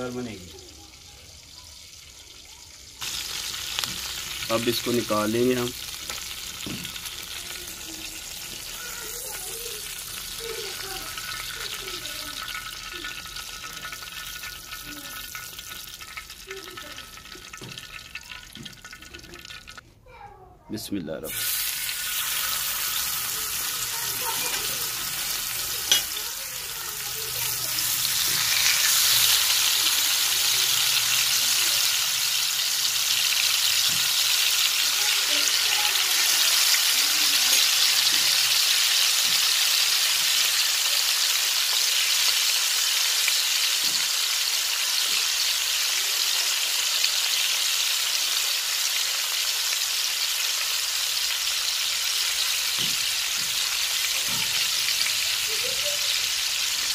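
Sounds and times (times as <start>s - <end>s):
fish sizzling in hot oil: 0.0s - 19.8s, 21.3s - 56.9s.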